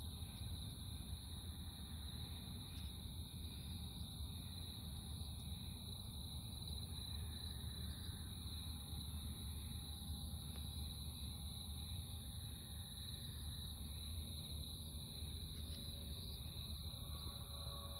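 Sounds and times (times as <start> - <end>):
night insects calling: 0.0 - 17.9.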